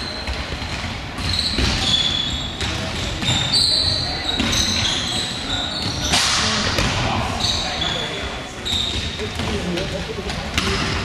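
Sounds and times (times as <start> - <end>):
shoes squeaking on hall floor: 0.0 - 11.0.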